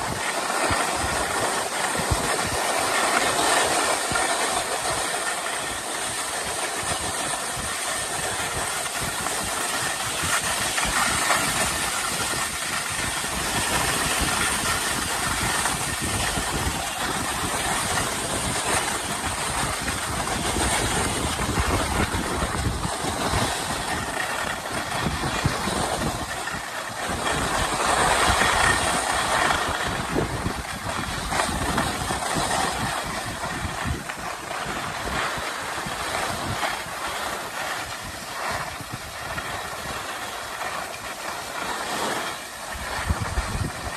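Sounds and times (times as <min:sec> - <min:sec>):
skis scraping over snow: 0:00.0 - 0:43.9
wind on microphone: 0:00.0 - 0:43.9.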